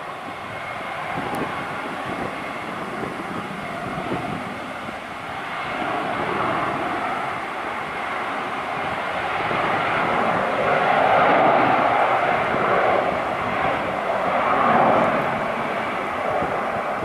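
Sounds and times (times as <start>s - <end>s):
jet airliner engines rushing: 0.0s - 17.0s.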